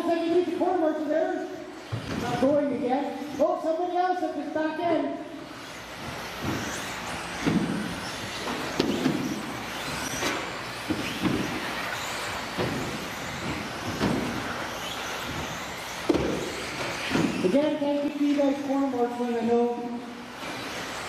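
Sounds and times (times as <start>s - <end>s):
rc cars racing: 0.0s - 21.0s.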